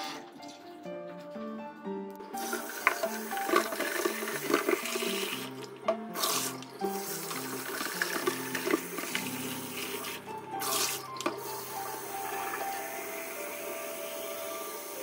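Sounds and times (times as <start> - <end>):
background music with simple melody: 0.0 - 15.0.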